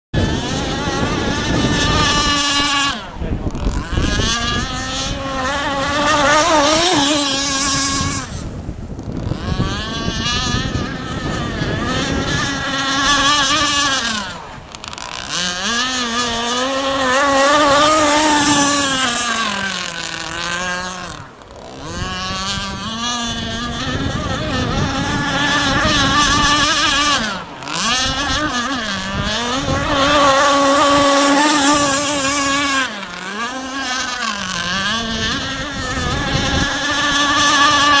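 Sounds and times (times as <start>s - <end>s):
model boat motor at high revs: 0.1s - 38.0s.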